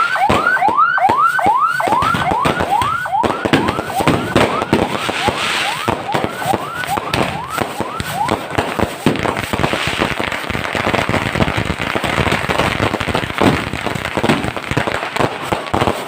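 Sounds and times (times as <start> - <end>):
fireworks crackling and banging: 0.0 - 16.0
rising firework whistle: 0.0 - 16.0.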